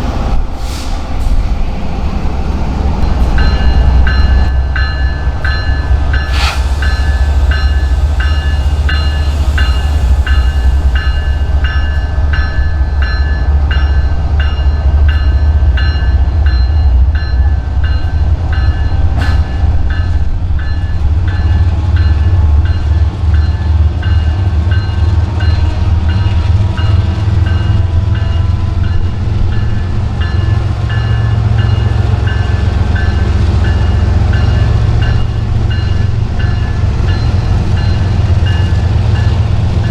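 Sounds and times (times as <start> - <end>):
diesel train rumbling: 0.0 - 39.9.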